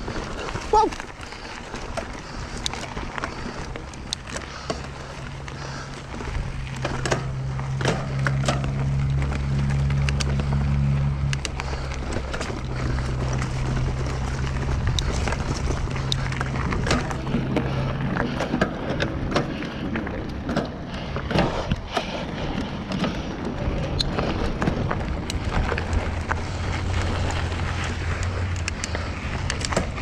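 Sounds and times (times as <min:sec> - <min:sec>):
bike clicks and knocks: 0:00.0 - 0:30.0
bike tyres on dirt trail: 0:00.0 - 0:30.0.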